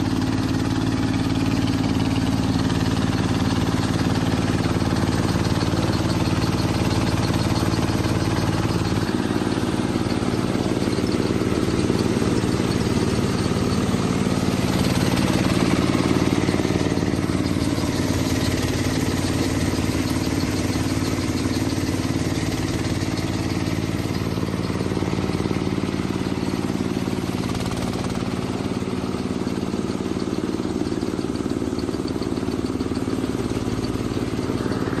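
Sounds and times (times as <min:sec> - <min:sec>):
harvester engine running: 0:00.0 - 0:35.0.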